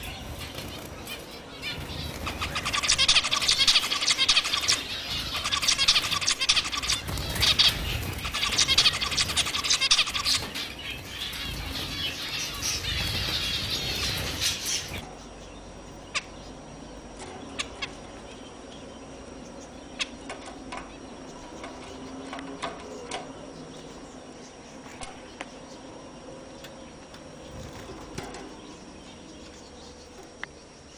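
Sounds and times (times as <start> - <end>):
caged finches chattering: 0.0 - 30.9
finches chirping: 0.0 - 30.9.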